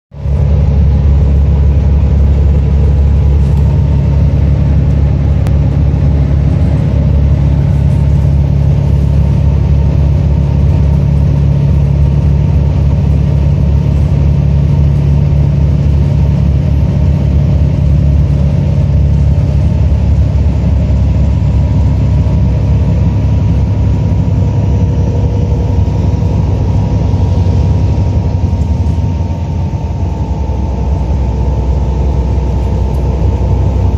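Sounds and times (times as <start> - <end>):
engine and tyre rumble in cabin: 0.1 - 33.9.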